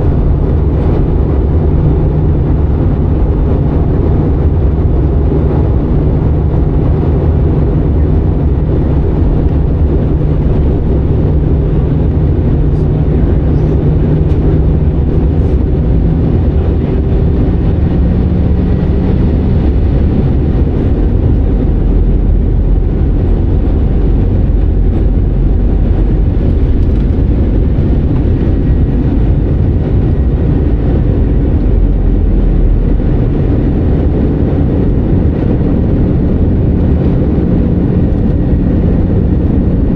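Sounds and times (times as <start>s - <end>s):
airplane engines rumbling: 0.0s - 39.9s
low hum: 0.0s - 39.9s
rushing air: 0.0s - 39.9s.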